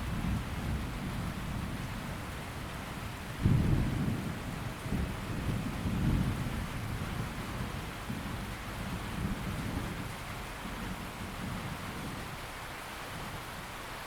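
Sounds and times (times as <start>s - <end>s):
low rumble of thunder: 0.0s - 12.4s
steady rain: 0.0s - 14.0s.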